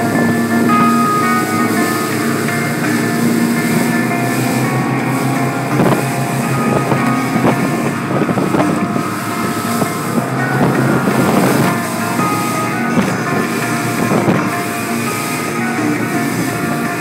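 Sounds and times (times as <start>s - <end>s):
boat engine: 0.0s - 17.0s
music from radio: 0.0s - 17.0s
wind noise: 0.0s - 17.0s.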